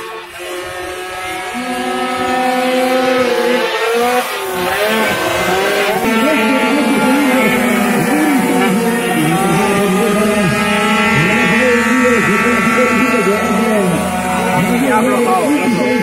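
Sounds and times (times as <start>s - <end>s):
racing motorcycle engines revving: 0.0s - 16.0s.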